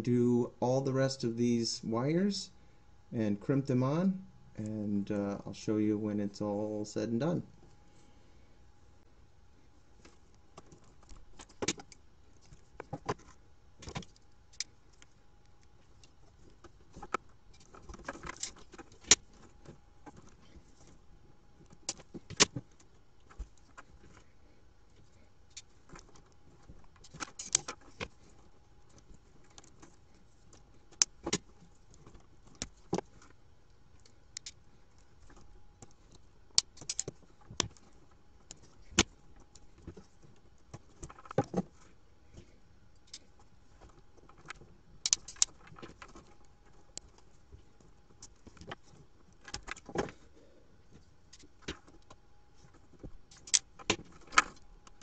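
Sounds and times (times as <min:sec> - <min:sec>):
wire and tool rustling: 0:09.6 - 0:55.0.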